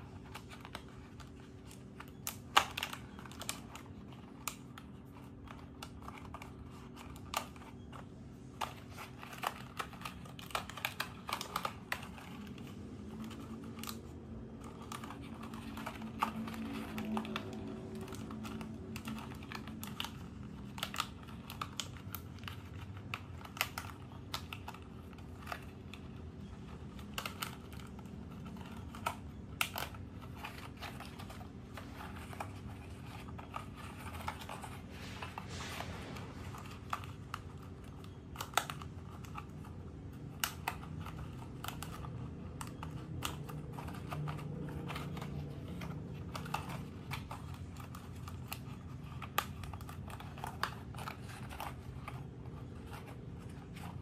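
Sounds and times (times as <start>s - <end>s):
paper lampshade crinkling and clicking: 0.0s - 54.0s.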